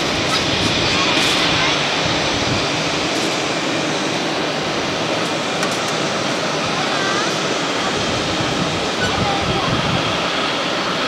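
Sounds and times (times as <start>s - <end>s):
jet engines at taxi power: 0.0s - 11.0s.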